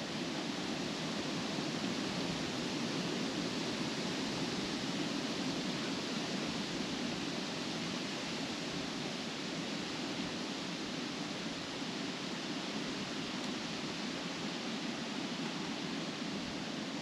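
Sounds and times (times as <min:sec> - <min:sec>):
wind rustling leaves: 0:00.0 - 0:17.0.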